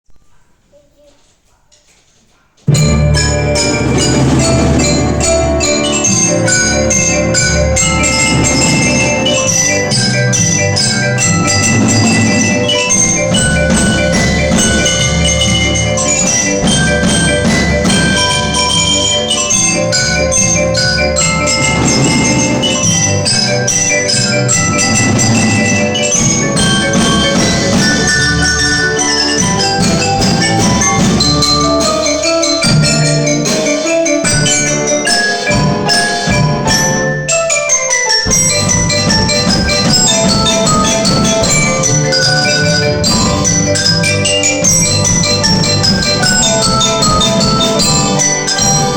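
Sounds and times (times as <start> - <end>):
mallet percussion music: 2.7 - 48.9.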